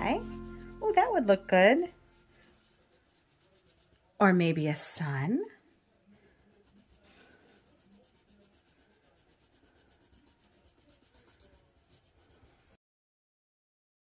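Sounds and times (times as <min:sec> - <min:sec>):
drawing tool scratching paper: 0:00.0 - 0:04.2, 0:05.3 - 0:12.8.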